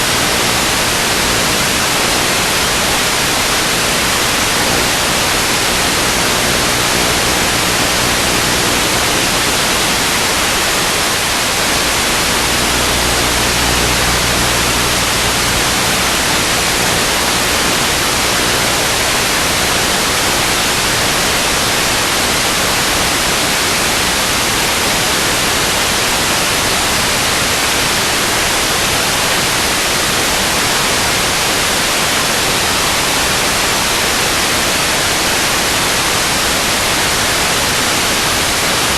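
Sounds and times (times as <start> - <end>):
receiver static hiss: 0.0 - 38.9.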